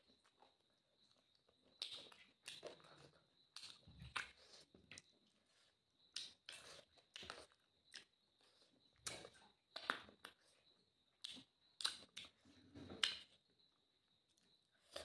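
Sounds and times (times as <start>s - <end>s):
chewing and sucking on bone: 0.0s - 13.4s, 14.3s - 15.0s.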